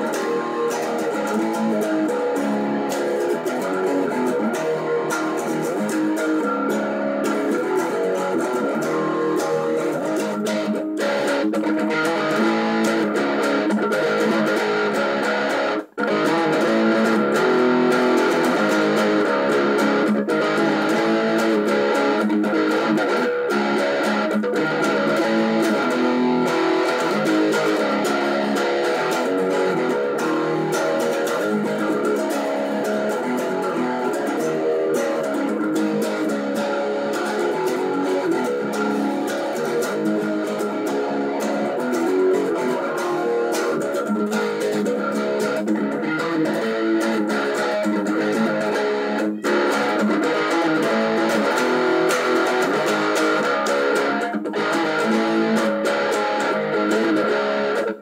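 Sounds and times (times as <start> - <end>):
distorted electric guitar chords: 0.0 - 58.0.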